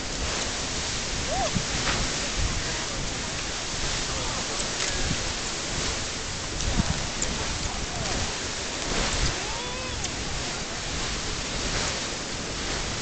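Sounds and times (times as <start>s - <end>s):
geyser water rushing and hissing: 0.0s - 13.0s.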